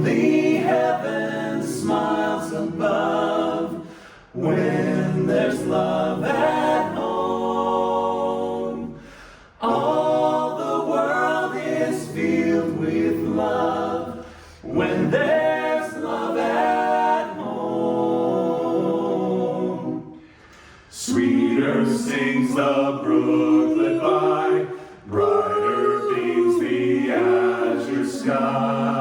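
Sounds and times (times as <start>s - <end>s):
men singing a hymn a cappella: 0.0s - 29.0s.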